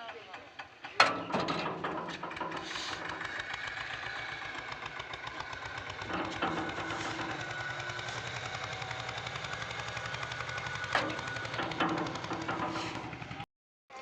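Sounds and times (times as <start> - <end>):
tractor diesel engine chugging: 0.0 - 13.5.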